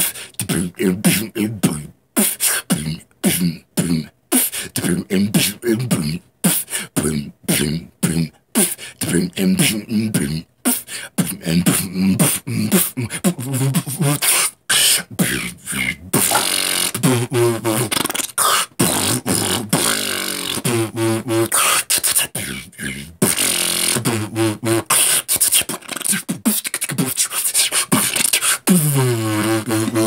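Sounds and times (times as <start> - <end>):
person beatboxing: 0.0 - 30.0.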